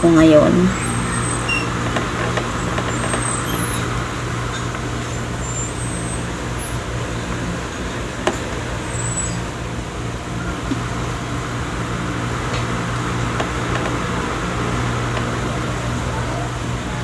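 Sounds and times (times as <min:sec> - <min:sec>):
background hum and hiss: 0:00.0 - 0:17.0.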